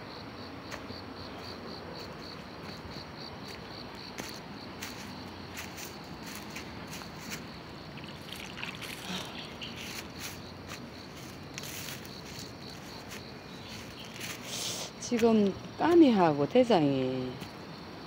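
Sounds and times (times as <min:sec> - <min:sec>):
high insect chirring: 0:00.7 - 0:18.0
footsteps crunching dry leaves: 0:01.4 - 0:16.1.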